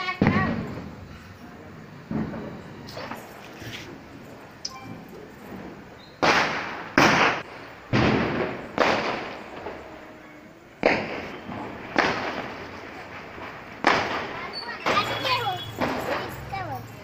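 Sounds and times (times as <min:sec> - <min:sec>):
firecrackers bursting: 0:00.0 - 0:17.0.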